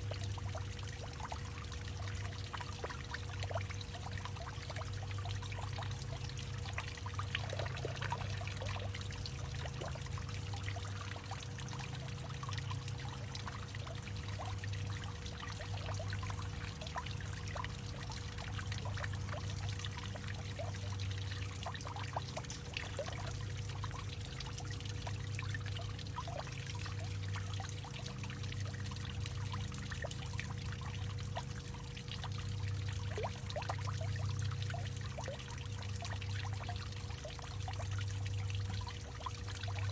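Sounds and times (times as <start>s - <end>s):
faint steady hum: 0.0s - 39.9s
water pouring and trickling: 0.0s - 39.9s.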